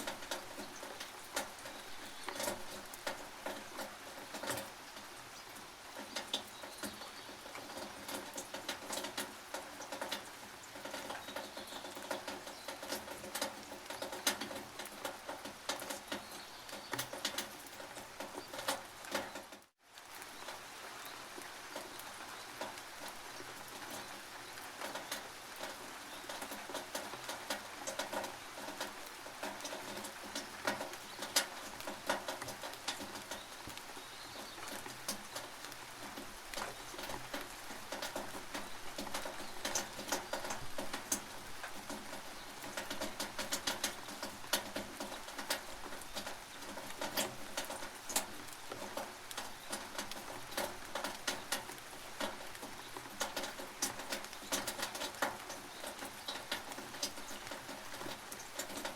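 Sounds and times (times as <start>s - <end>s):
rain drops on a tin roof: 0.0s - 58.9s
steady rain hiss: 0.0s - 58.9s.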